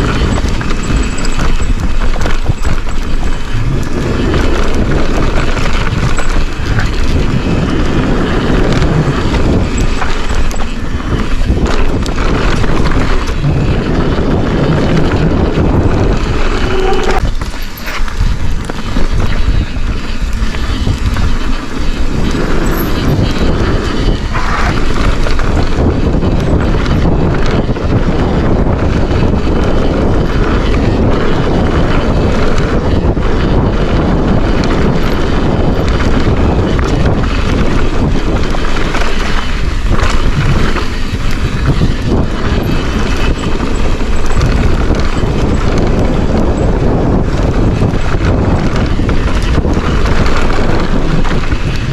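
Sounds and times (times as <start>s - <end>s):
mountain bike rattling down trail: 0.0s - 51.9s
wind buffeting microphone: 0.0s - 51.9s.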